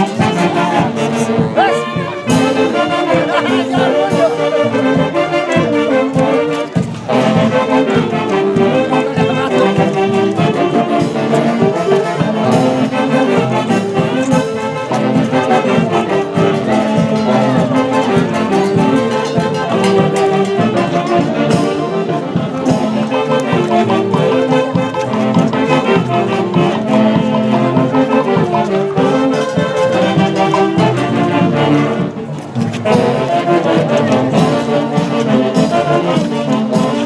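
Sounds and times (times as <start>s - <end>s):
brass band playing dance tune: 0.0s - 37.0s.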